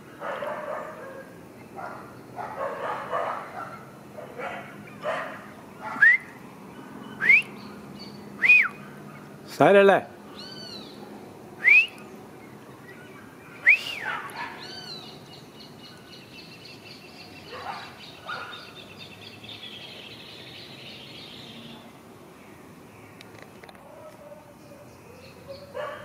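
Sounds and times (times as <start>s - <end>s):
birds whistling and trilling: 1.6s - 9.5s, 10.3s - 26.0s.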